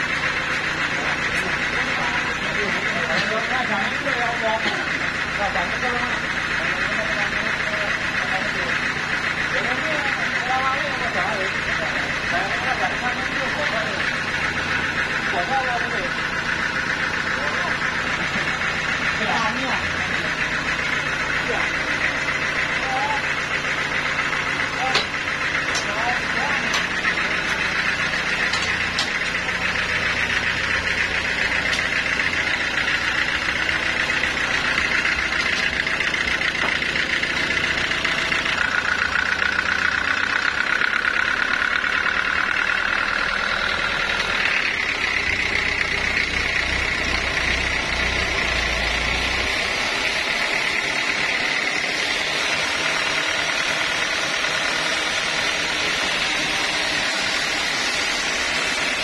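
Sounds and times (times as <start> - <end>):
stationary engine droning: 0.0 - 59.0.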